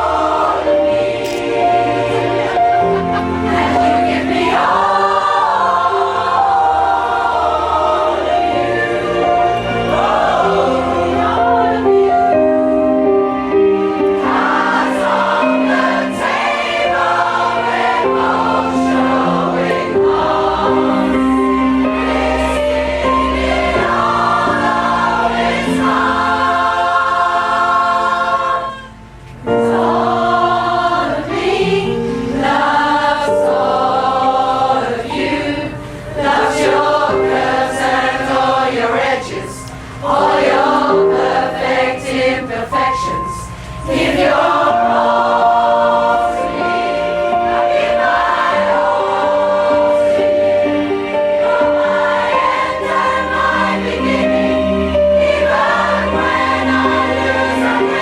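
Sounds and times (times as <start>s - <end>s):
pop choir singing: 0.0s - 58.0s.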